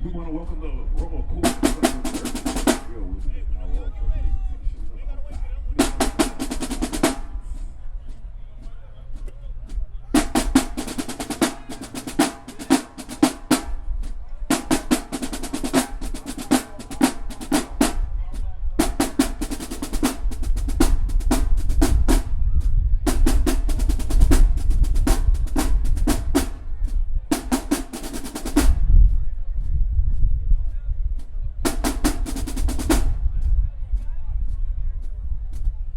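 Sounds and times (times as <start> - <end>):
drumline playing a cadence: 1.0 - 3.3, 4.8 - 29.2, 31.2 - 33.6.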